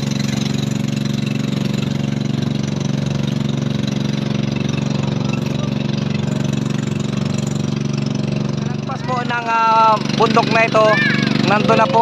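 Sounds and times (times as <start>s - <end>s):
motorboat engine chugging: 0.0s - 12.0s.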